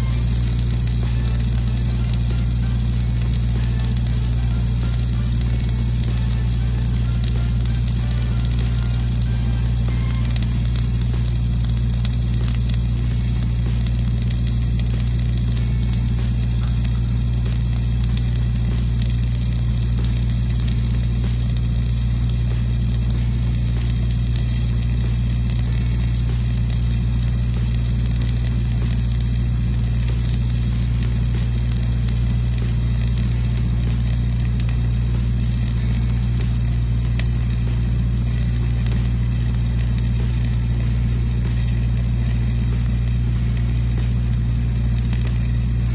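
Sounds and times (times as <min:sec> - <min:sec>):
low hum: 0:00.0 - 0:45.9
welding arc sizzling: 0:00.0 - 0:45.9.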